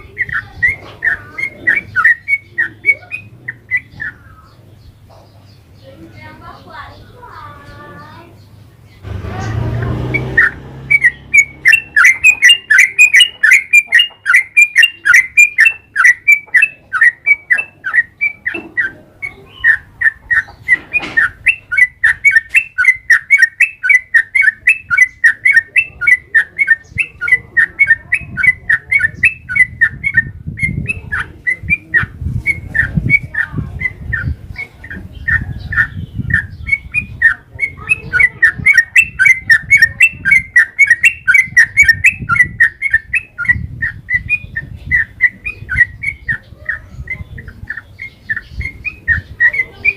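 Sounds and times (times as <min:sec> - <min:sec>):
bird singing quick chirps: 0:00.0 - 0:49.9.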